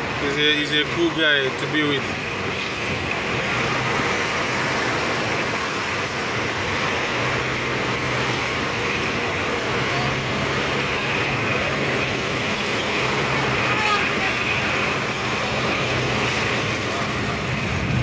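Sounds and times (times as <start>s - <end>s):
car engine drone: 0.0s - 18.0s
tyre and road noise: 0.0s - 18.0s.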